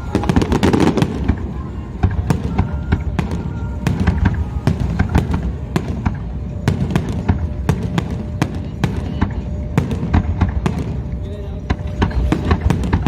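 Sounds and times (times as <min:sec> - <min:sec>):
continuous low rumble: 0:00.0 - 0:13.0
fireworks bangs and crackles: 0:00.0 - 0:13.0.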